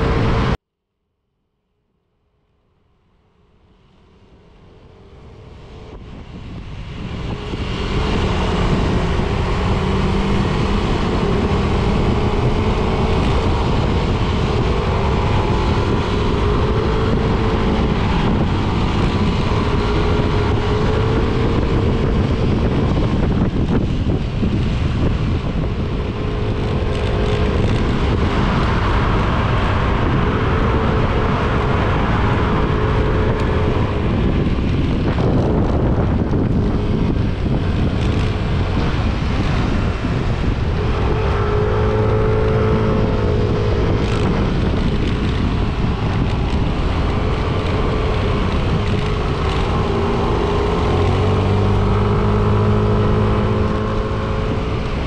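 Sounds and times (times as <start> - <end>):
wind and road noise: 0.0 - 0.6, 1.6 - 55.0
motorcycle engine running: 4.2 - 55.0.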